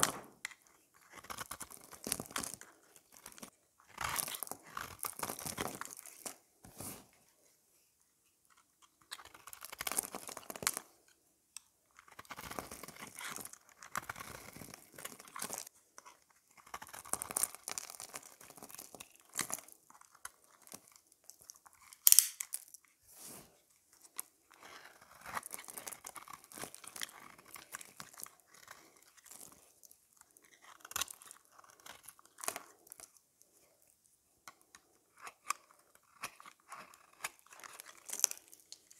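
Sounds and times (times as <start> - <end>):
knife scraping soap: 0.4 - 6.4, 8.4 - 11.2, 11.9 - 22.1, 23.7 - 38.9.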